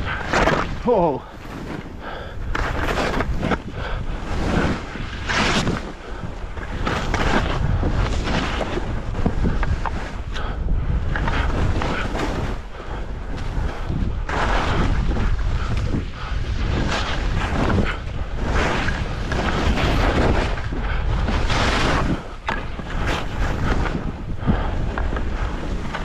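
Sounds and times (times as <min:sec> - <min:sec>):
skis scraping on snow: 0:00.0 - 0:26.0
wind buffeting microphone: 0:00.0 - 0:26.0.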